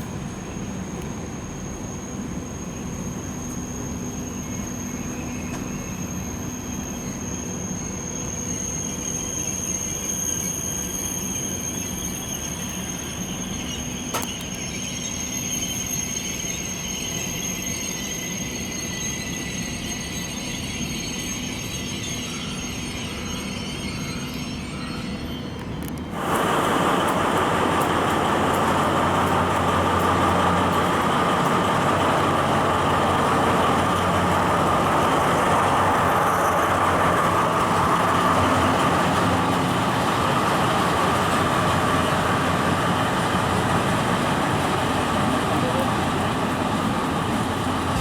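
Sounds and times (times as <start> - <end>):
train running slowly: 0.0 - 48.0
wheels whining on rails: 0.0 - 48.0.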